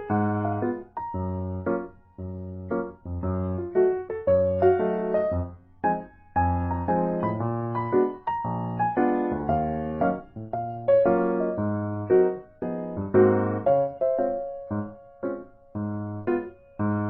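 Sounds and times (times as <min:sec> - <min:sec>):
keyboard piano music: 0:00.0 - 0:17.0.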